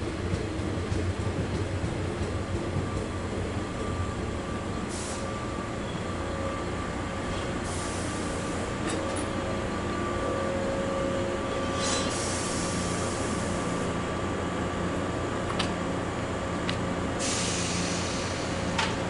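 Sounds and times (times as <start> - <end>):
electric train rumbling to a stop: 0.0 - 19.0.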